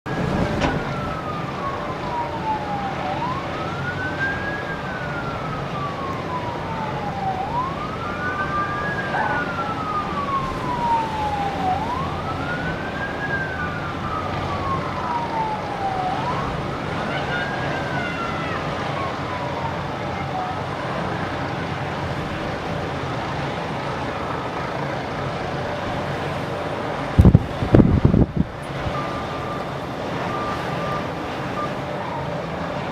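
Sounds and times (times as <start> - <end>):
emergency siren wailing: 0.1 - 32.9.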